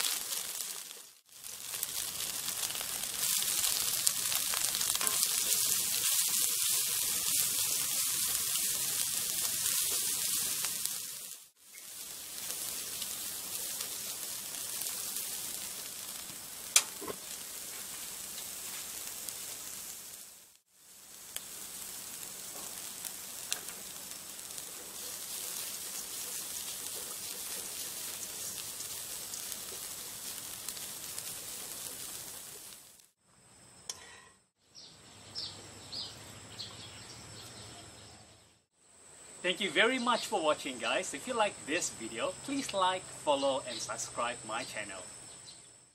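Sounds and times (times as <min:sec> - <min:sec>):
food sizzling in a wok: 0:00.0 - 0:33.2, 0:38.7 - 0:45.6.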